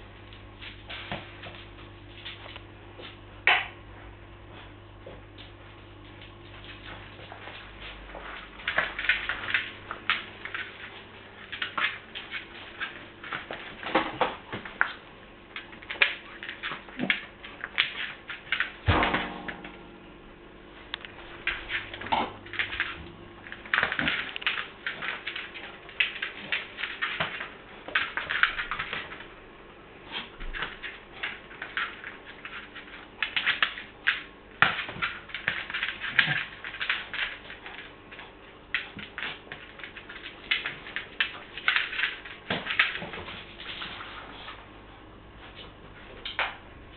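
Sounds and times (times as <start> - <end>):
puppy paws clicking and scrabbling: 0.0 - 19.8, 20.8 - 29.4, 30.0 - 46.9.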